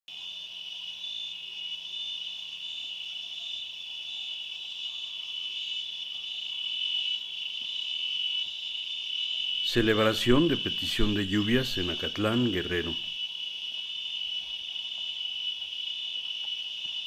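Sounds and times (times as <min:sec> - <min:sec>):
insects shrilling: 0:00.2 - 0:17.0.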